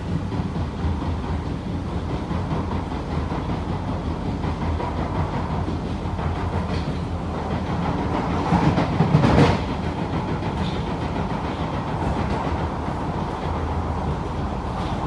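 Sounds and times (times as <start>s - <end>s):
passing train rush: 0.0s - 15.0s
wheel-on-rail rumble: 0.0s - 15.0s.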